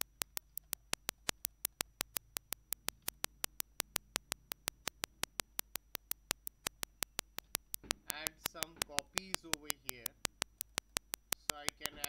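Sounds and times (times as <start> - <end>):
rapid sharp clicks: 0.0 - 12.0.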